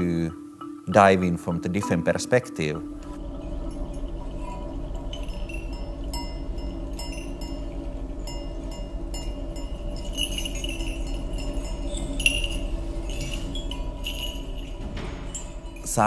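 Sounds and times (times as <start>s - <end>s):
soft low drone: 1.0s - 16.0s
small metal bells jingling: 2.9s - 16.0s.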